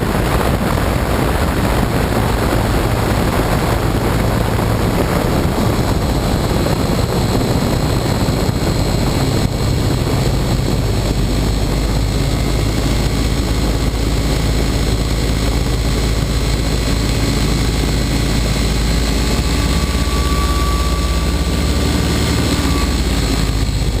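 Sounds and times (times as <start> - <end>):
ultralight engine and propeller: 0.0 - 24.0.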